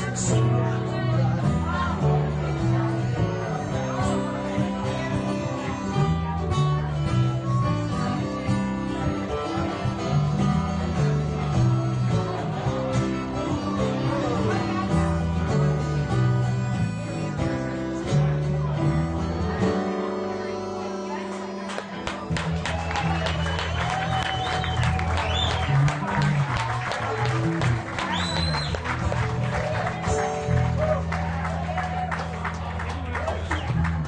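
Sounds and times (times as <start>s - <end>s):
acoustic guitar: 0.0s - 34.0s
low bass notes: 0.0s - 34.0s.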